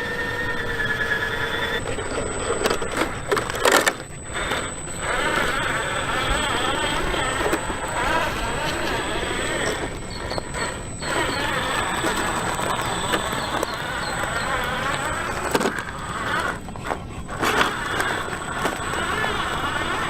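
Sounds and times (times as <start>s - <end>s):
toy truck motor whine: 0.0s - 20.0s
tyre and chassis noise: 0.0s - 20.0s.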